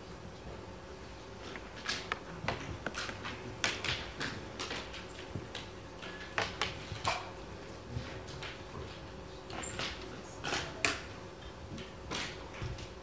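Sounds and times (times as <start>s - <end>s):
audience clicks and rustles: 1.0s - 13.0s.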